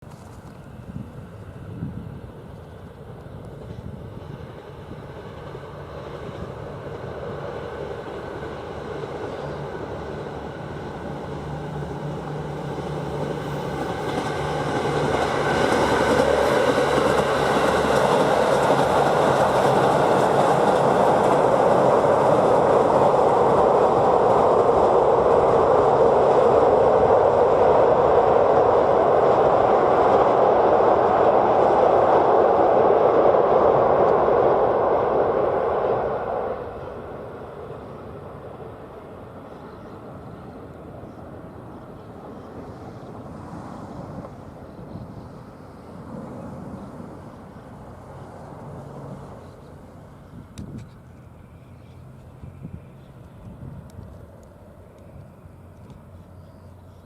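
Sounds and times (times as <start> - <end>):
train engines and wheels: 0.0 - 57.0.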